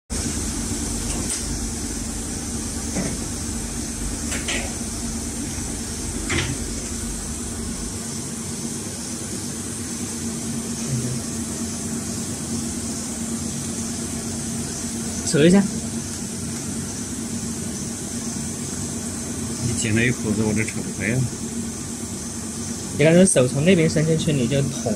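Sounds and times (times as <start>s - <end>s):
electrical machine hum: 0.1s - 24.9s.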